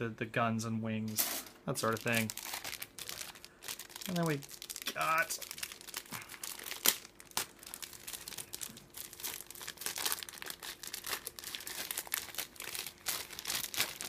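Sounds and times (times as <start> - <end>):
plastic bag crinkling: 1.2 - 14.0.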